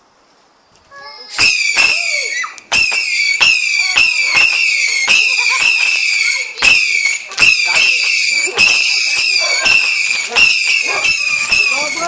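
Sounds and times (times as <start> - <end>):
firework sharp cracks: 1.3 - 12.0
whistling firework shrieking: 1.3 - 12.0.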